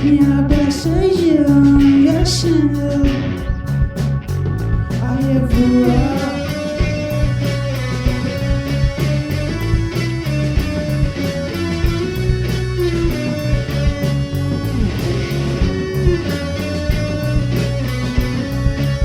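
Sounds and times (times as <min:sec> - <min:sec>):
instrumental rock band playing: 0:00.0 - 0:19.0.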